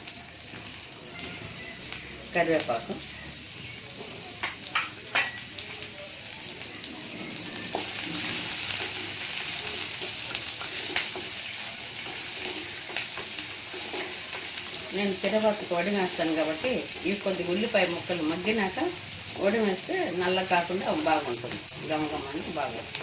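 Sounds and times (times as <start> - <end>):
onion sizzling in hot oil: 0.0 - 23.0.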